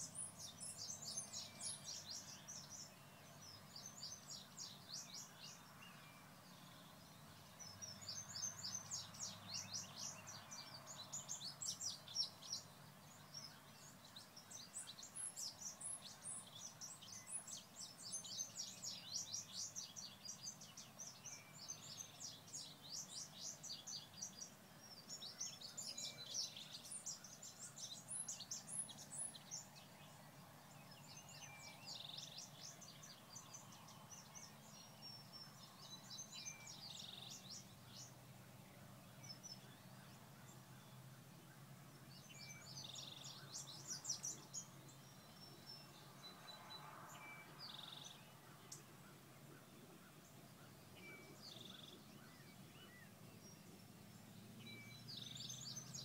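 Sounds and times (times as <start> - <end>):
songbirds chirping: 0.0 - 56.0
steady outdoor hum: 0.0 - 56.0.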